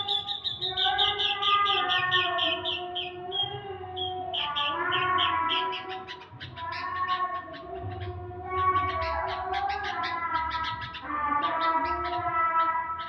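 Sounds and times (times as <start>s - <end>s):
bird singing fast chirps: 0.0s - 13.0s.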